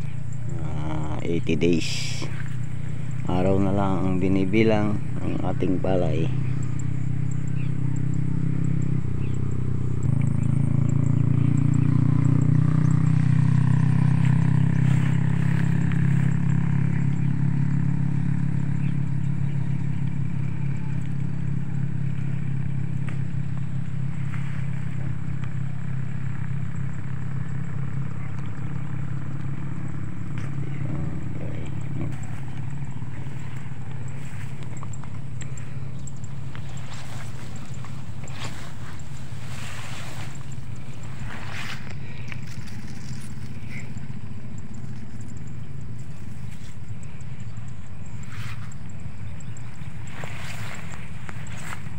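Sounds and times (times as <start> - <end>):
small engine humming: 0.0 - 51.9.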